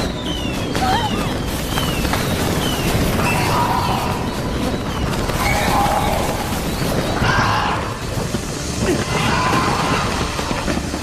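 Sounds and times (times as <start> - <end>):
falling whistles: 0.0 - 10.5.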